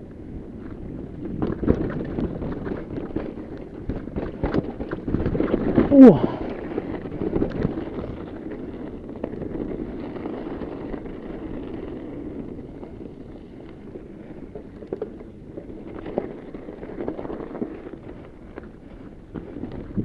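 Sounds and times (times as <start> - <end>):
bike tyres rumbling on dirt: 0.0 - 20.0
wind noise on microphone: 0.0 - 20.0
bike rattling: 0.2 - 20.0.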